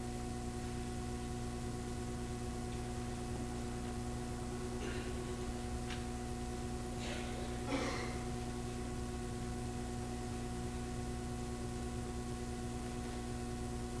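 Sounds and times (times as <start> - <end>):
mains hum and hiss: 0.0 - 14.0.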